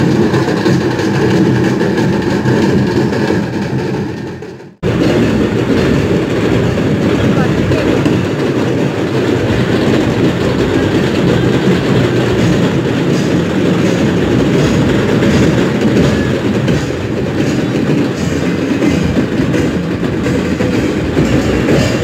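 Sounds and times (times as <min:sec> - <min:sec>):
crowd din: 0:00.0 - 0:22.0.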